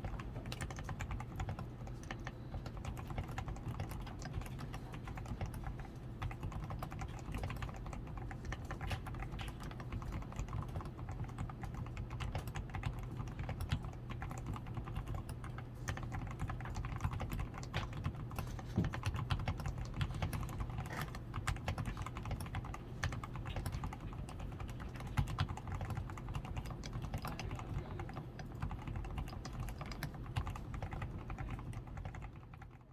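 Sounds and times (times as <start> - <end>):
typing on mechanical keyboard: 0.0 - 32.9.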